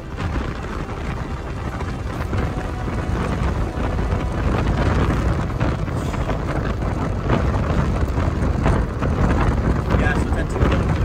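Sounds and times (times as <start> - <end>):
car driving rumble: 0.0 - 11.0
wind buffeting microphone: 0.0 - 11.0.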